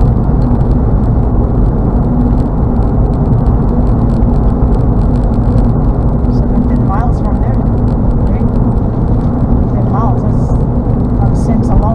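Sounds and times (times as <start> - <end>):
car road and engine noise: 0.0 - 11.9
steady low hum: 0.0 - 11.9.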